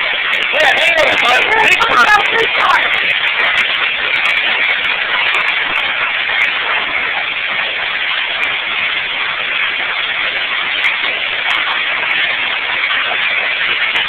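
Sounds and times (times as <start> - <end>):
hailstones ticking: 0.0 - 14.0
heavy hail and rain: 0.0 - 14.0.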